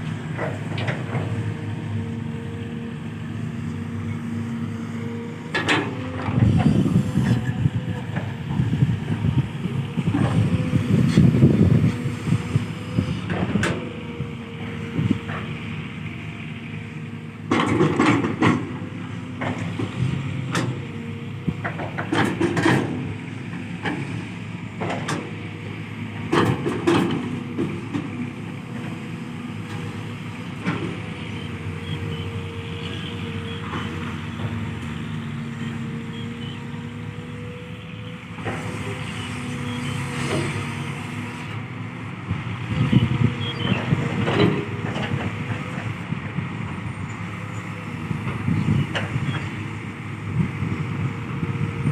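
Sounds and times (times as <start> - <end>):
excavator diesel engine running: 0.0 - 51.9
excavator whine: 0.0 - 51.9.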